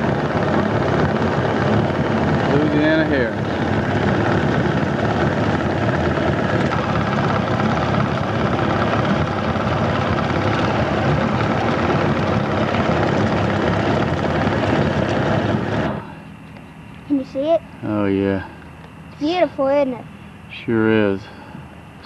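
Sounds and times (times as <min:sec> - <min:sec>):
boat motor running: 0:00.0 - 0:22.0.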